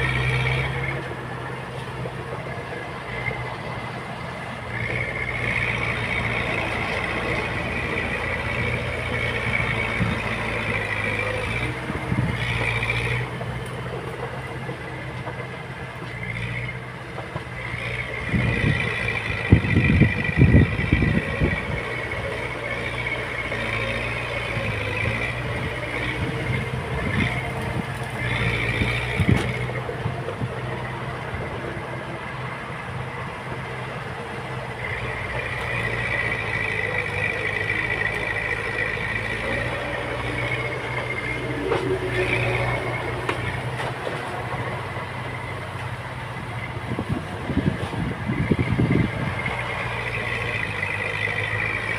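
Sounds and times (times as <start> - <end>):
diesel machine engine running: 0.0 - 51.9.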